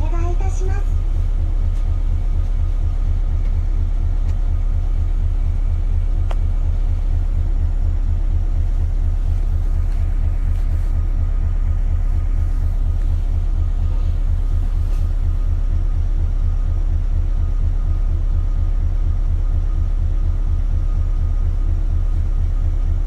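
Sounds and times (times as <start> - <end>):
bus diesel engine rumble: 0.0 - 23.0.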